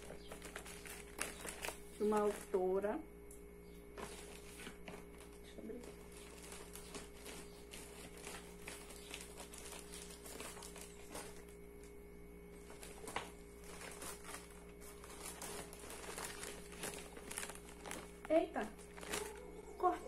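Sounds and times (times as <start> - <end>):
plastic rustling and crinkling: 0.0 - 2.9, 3.8 - 20.0.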